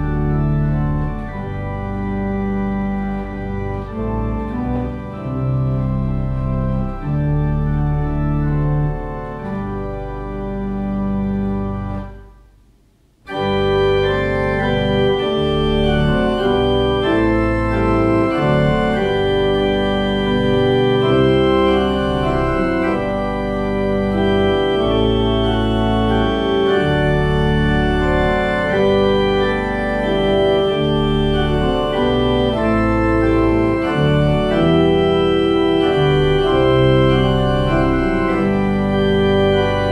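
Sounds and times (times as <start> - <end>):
organ playing hymn chords: 0.0 - 39.9.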